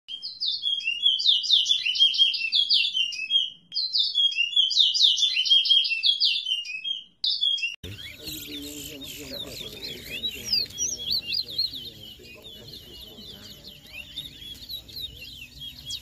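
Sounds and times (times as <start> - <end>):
songbird singing sweeping chirps: 0.1 - 16.0.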